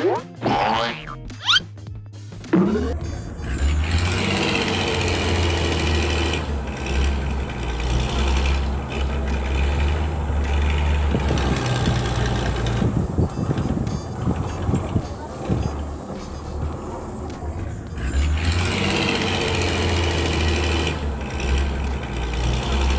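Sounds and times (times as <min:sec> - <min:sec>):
heavy vehicle engine rumbling: 0:02.4 - 0:22.9.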